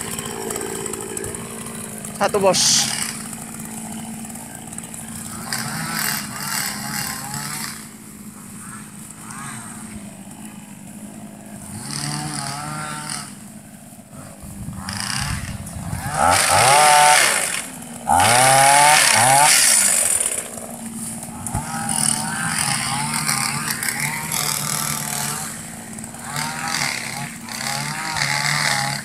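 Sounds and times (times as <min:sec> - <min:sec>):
small engine idling and revving: 0:00.0 - 0:29.0.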